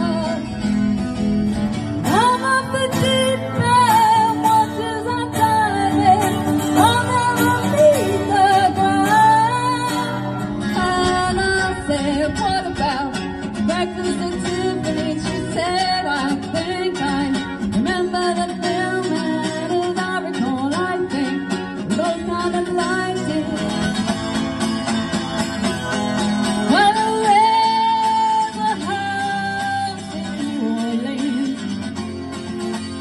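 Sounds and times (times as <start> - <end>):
woman singing: 0.0 - 0.6, 2.0 - 24.1, 26.7 - 32.1
guitar chords: 0.0 - 33.0.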